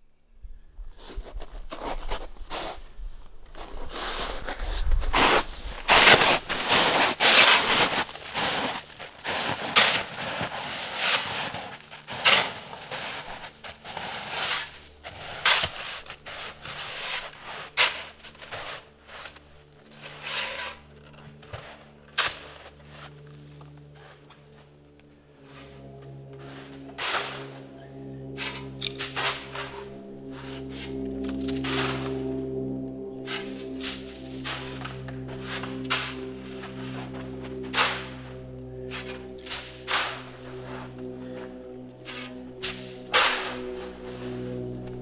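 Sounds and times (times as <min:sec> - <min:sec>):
footsteps crunching through snow: 0:00.9 - 0:45.0.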